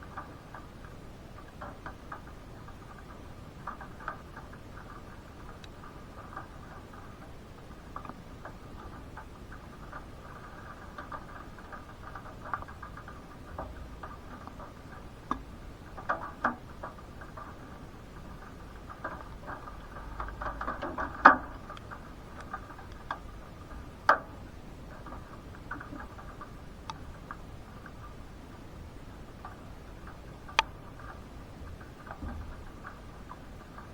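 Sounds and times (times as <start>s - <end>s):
raindrops pattering on hard surface: 0.0s - 33.9s.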